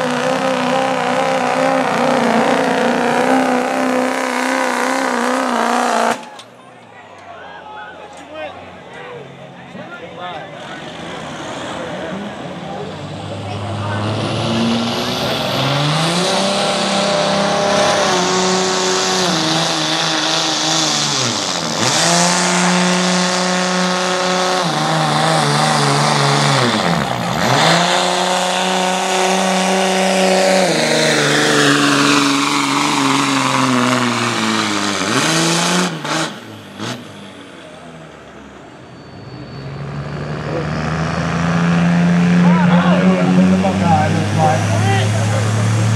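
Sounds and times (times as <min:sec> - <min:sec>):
diesel pickup engine at high revs: 0:00.0 - 0:06.6, 0:09.2 - 0:45.9.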